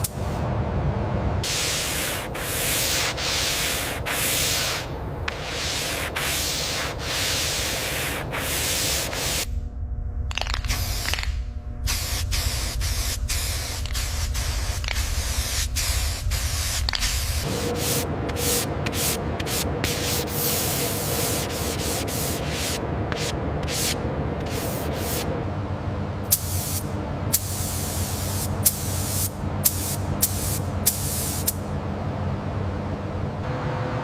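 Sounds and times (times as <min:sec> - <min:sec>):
steady low hum: 0:00.0 - 0:34.0
spraying air hissing in bursts: 0:01.4 - 0:09.5, 0:10.7 - 0:25.3, 0:26.3 - 0:31.6.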